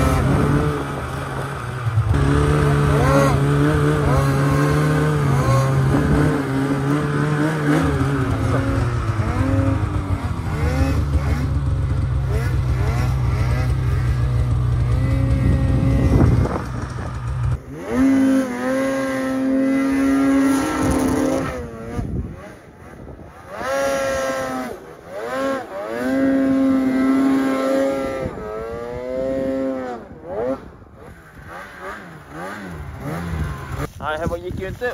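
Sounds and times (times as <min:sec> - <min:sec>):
snowmobile engine drone: 0:00.0 - 0:34.9
snowmobile revving: 0:00.0 - 0:34.9.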